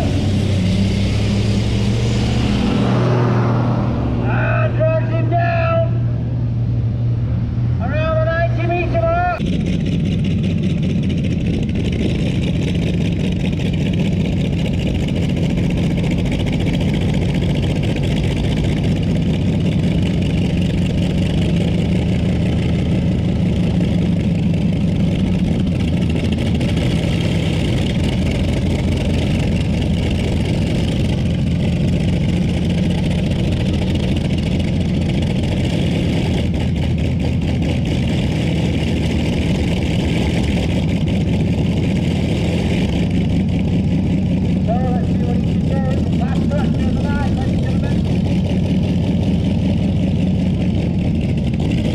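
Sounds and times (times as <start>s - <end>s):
tractor engine droning: 0.0s - 51.9s.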